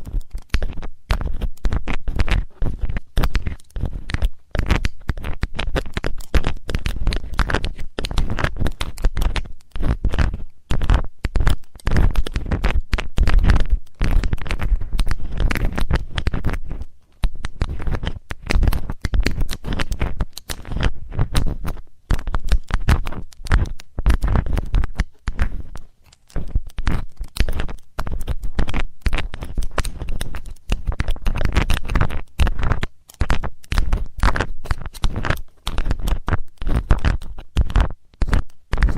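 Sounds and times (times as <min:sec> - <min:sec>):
scratching inside microphone ear: 0:00.0 - 0:38.9.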